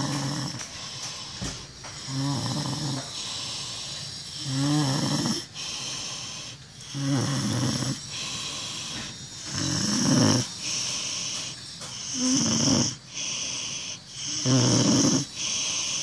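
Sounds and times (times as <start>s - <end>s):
loud snores: 0.0s - 1.4s, 2.0s - 16.0s
soft breathing: 0.0s - 2.2s, 3.0s - 4.5s, 5.2s - 16.0s.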